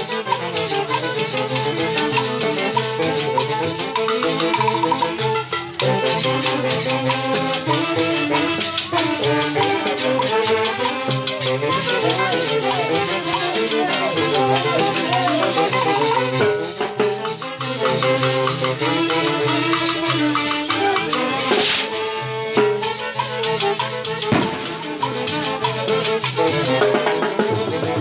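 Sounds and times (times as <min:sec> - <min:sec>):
saxophone section melody: 0:00.0 - 0:22.6, 0:23.4 - 0:28.0
metal shaker rhythm: 0:00.0 - 0:28.0.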